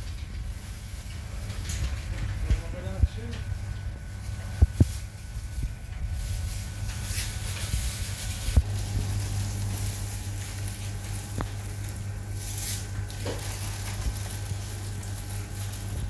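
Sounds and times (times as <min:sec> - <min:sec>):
low electrical hum: 0:00.0 - 0:16.0
plastic bags rustling: 0:00.0 - 0:16.0.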